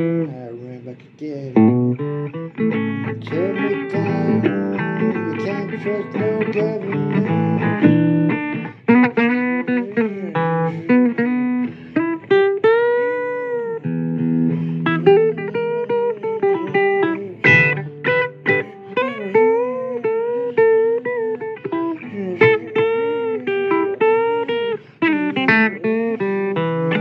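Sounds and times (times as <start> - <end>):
blues guitar playing: 0.0 - 27.0.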